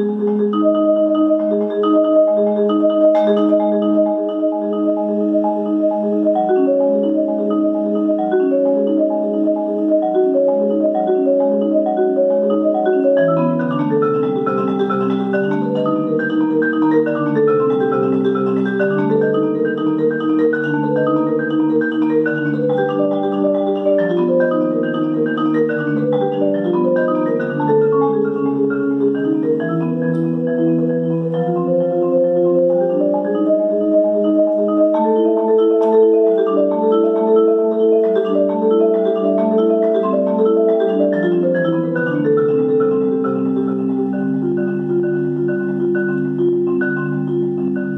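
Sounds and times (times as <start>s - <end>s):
solo marimba: 0.0s - 47.9s.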